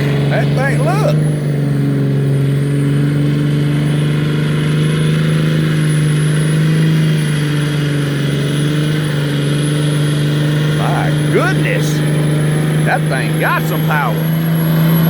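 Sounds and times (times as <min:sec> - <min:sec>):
diesel truck engine running hard: 0:00.0 - 0:15.0.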